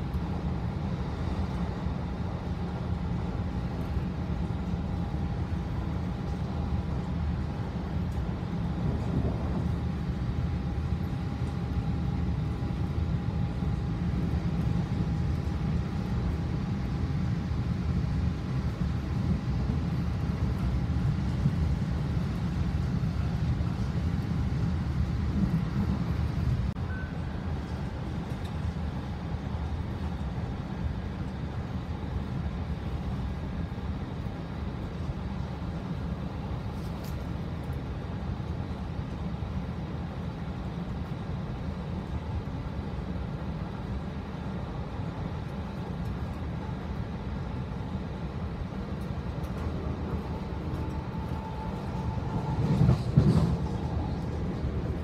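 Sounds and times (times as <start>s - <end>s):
passenger train rumbling: 0.0s - 55.0s.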